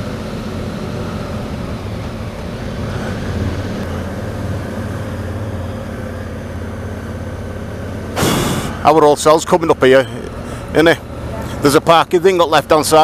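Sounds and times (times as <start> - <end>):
motorcycle engine humming: 0.0 - 13.0
road and wind noise: 0.0 - 13.0.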